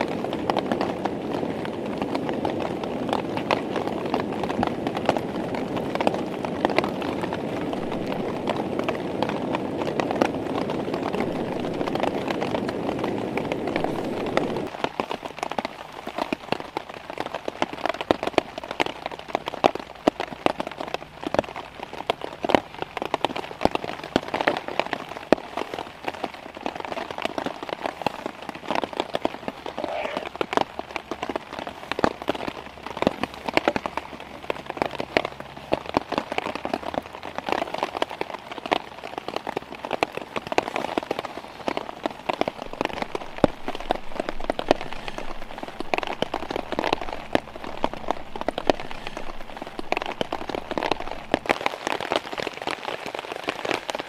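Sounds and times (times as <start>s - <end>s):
rain pattering on a tarp: 0.0s - 54.0s.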